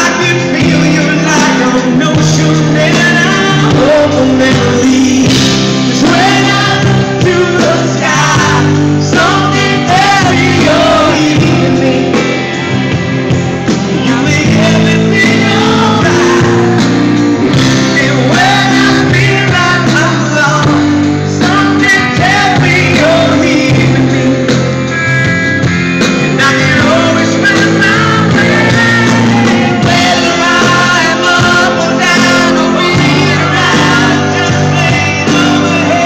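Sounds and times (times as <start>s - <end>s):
person singing: 0.0s - 25.0s, 26.0s - 36.0s
pop-rock band playing: 0.0s - 36.0s.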